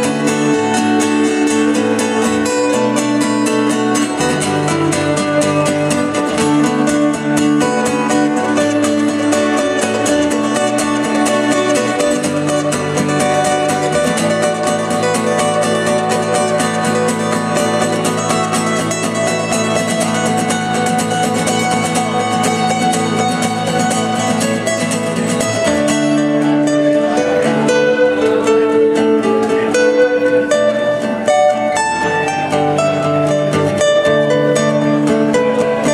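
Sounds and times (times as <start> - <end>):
strummed string instruments: 0.0 - 35.9.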